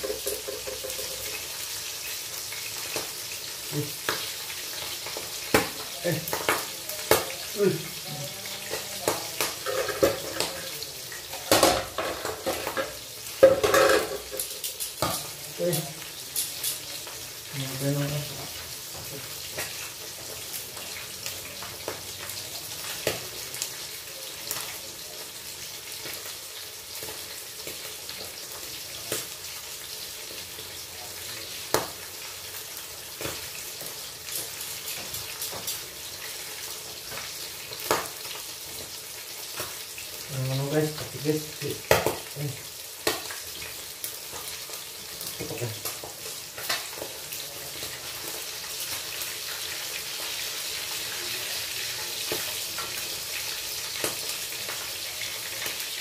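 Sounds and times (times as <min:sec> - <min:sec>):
fish sizzling in a pan: 0:00.0 - 0:56.0
oil crackling and popping: 0:00.0 - 0:56.0.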